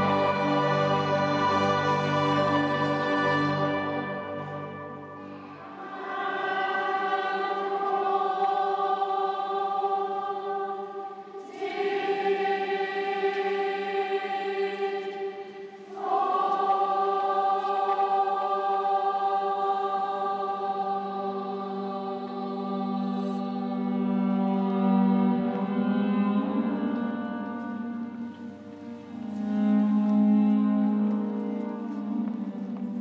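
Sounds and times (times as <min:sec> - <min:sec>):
children's choir singing: 0:00.0 - 0:33.0.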